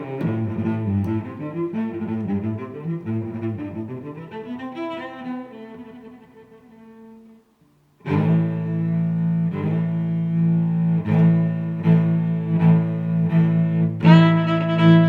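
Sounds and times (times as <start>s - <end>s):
bowed string music: 0.0s - 15.0s.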